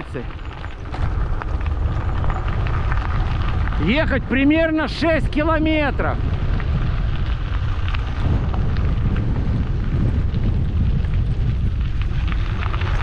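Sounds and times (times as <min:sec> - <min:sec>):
bicycle clicks and rattles: 0:00.0 - 0:13.0
wind buffeting microphone: 0:00.0 - 0:13.0.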